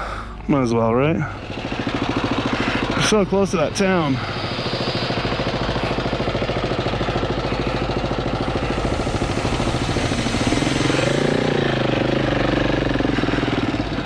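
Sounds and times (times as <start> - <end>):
motorcycle engine revving: 1.1 - 14.0.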